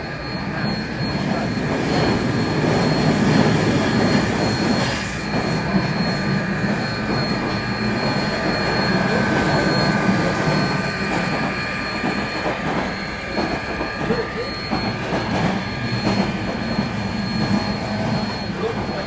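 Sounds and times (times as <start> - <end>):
model train rumble and whine: 0.0 - 19.0.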